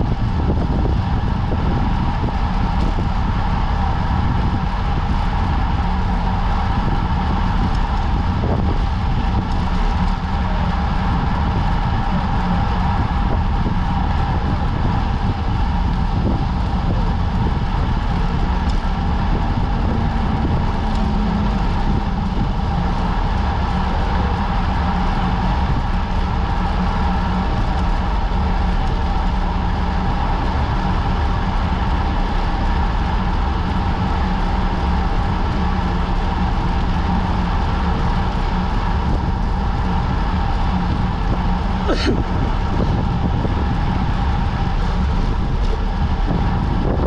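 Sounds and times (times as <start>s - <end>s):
bicycle tyre road noise: 0.0s - 47.0s
wind on microphone: 0.0s - 47.0s.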